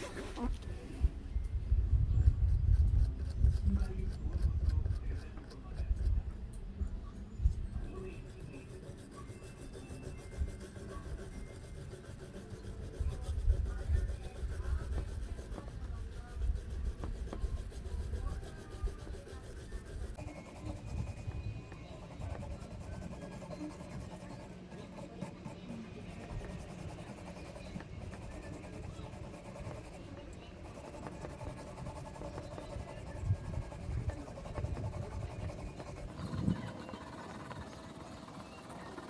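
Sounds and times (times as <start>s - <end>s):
rubbing and scraping: 0.0s - 1.0s, 2.0s - 6.3s, 7.5s - 38.3s.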